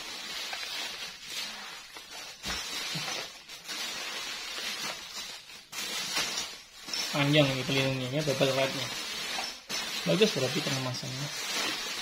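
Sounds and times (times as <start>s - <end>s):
bubble wrap rustling and crinkling: 0.0s - 12.0s.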